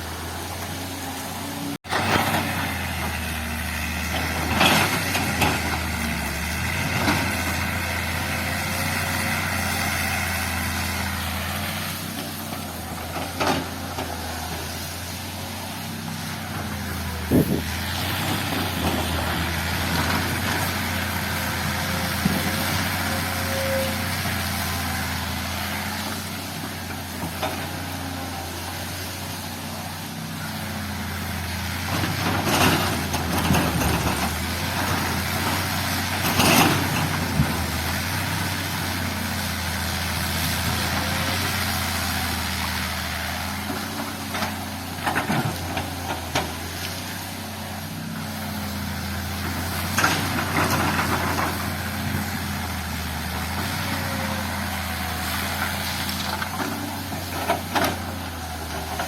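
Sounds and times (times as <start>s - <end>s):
diesel earthmoving machine running: 0.0s - 59.0s.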